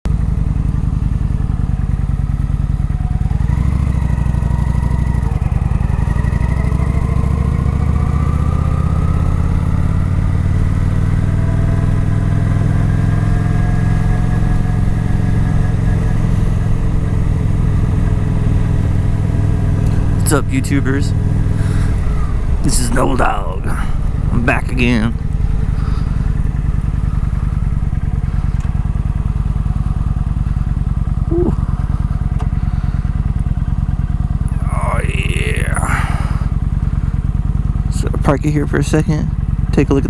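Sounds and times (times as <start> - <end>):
motorcycle engine revving: 0.1 - 40.0.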